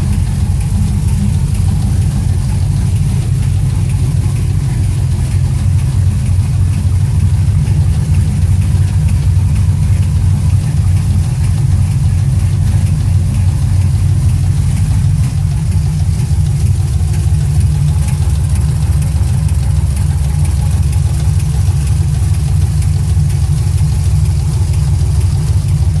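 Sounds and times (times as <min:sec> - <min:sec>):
engine idling with knock: 0:00.0 - 0:26.0.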